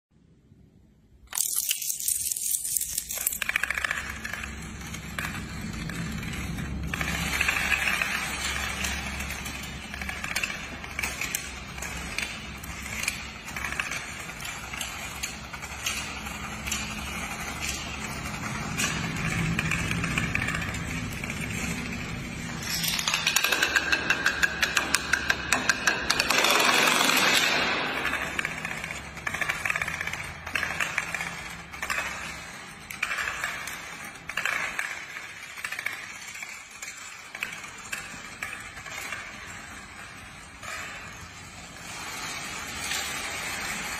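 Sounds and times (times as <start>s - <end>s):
coins and dominoes toppling on tile: 1.3s - 43.9s.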